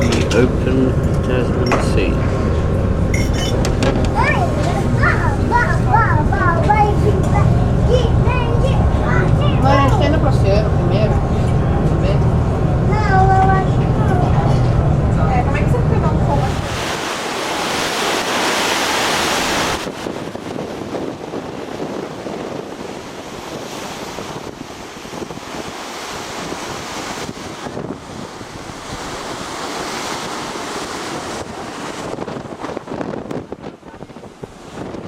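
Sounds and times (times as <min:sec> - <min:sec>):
open sea rushing: 0:00.0 - 0:35.0
wind on microphone: 0:00.0 - 0:35.0.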